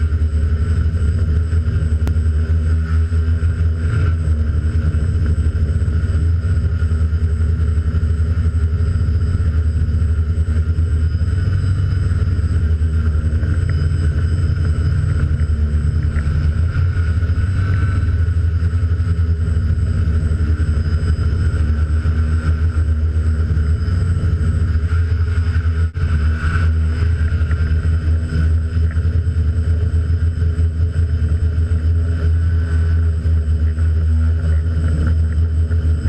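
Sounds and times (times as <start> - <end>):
drone motors and propellers: 0.0 - 36.0.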